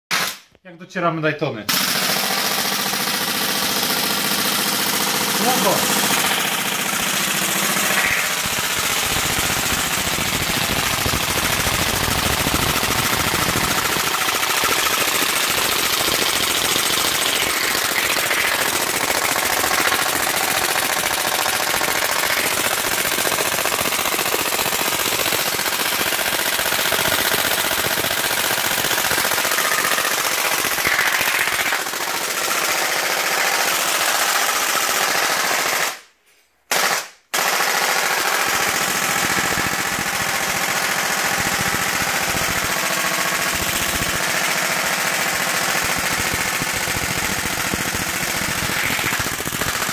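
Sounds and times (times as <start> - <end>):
airsoft gun firing full auto: 0.1 - 0.5, 1.7 - 36.1, 36.7 - 49.9.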